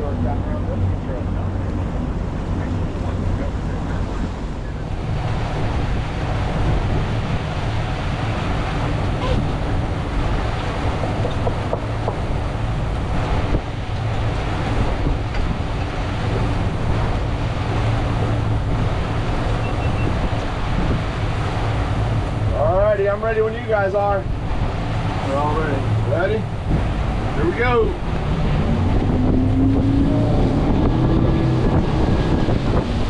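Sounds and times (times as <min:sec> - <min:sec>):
outboard motors humming: 0:00.0 - 0:33.0
water washing past hull: 0:00.0 - 0:33.0
wind on microphone: 0:00.0 - 0:33.0.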